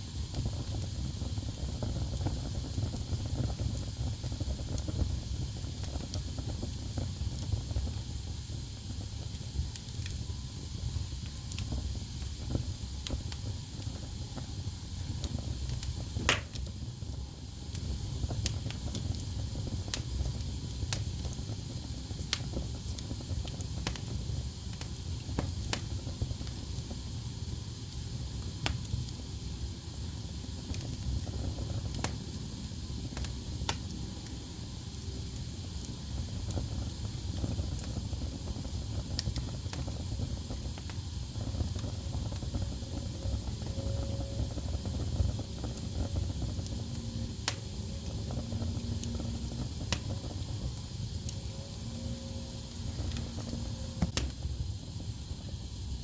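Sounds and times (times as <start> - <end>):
fire crackling and popping: 0.0 - 56.0
fire flames rumbling and hissing: 0.0 - 56.0.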